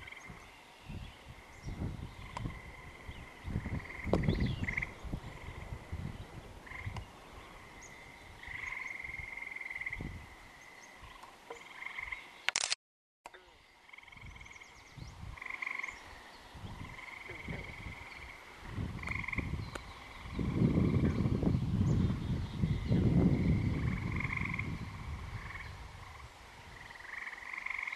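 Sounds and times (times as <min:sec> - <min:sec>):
wind rumbling on microphone: 0:00.0 - 0:12.2, 0:13.9 - 0:27.9
frogs trilling: 0:01.4 - 0:05.8, 0:06.6 - 0:12.4, 0:13.3 - 0:21.4, 0:22.8 - 0:27.9.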